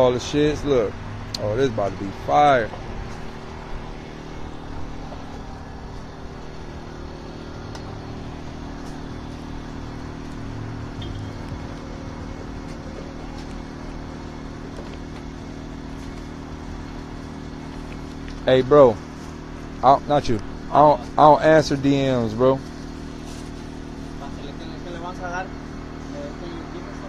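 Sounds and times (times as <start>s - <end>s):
low engine hum: 0.0s - 27.0s
outdoor background noise: 0.0s - 27.0s.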